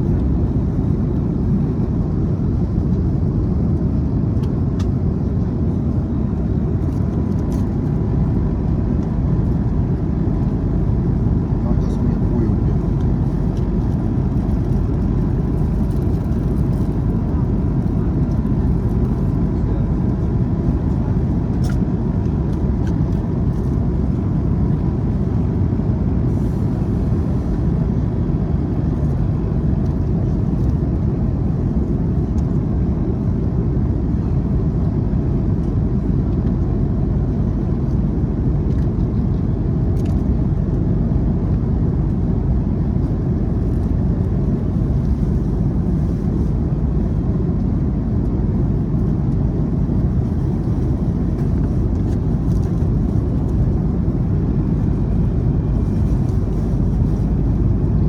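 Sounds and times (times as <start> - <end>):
jet cabin engine and airflow noise: 0.0 - 58.0.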